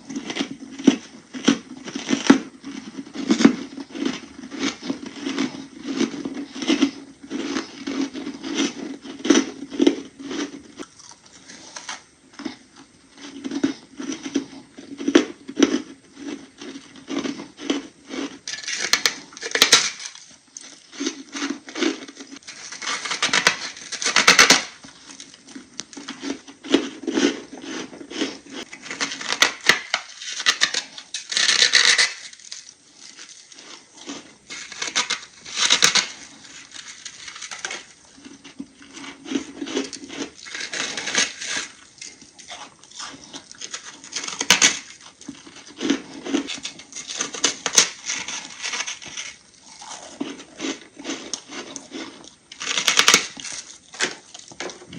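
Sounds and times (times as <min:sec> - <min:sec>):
biting and crunching ice: 0:00.0 - 0:12.6, 0:13.2 - 0:54.9.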